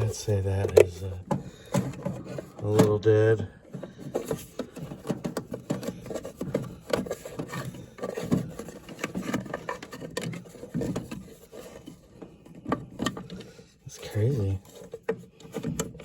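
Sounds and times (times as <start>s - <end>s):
rubbing scraping and clicking: 0.0s - 16.0s.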